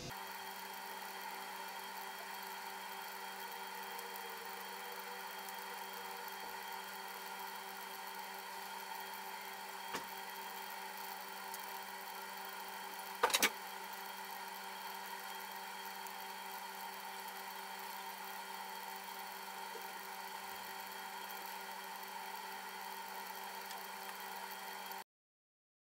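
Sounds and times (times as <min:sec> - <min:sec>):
steady oven hum: 0:00.0 - 0:25.0.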